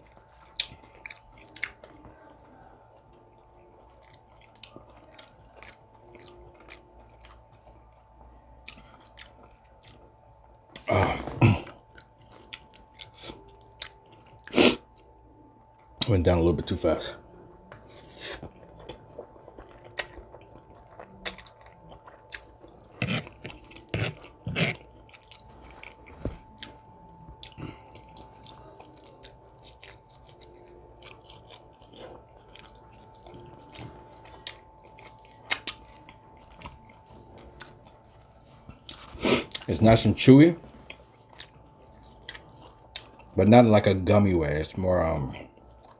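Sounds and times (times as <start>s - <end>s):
wet chewing: 0.0s - 10.9s, 11.6s - 15.2s, 17.6s - 39.8s, 40.7s - 43.4s, 45.3s - 45.9s
faint steady tone: 0.0s - 45.9s.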